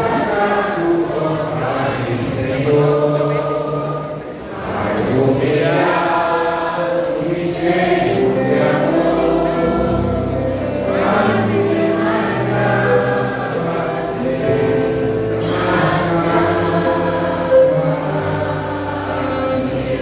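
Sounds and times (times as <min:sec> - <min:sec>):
group singing gospel in harmony: 0:00.0 - 0:20.0.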